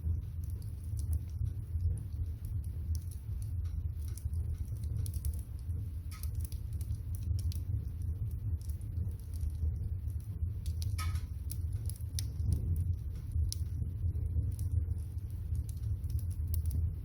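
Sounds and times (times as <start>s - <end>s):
firewood crackling and popping: 0.0s - 17.0s
low rumble: 0.0s - 17.0s.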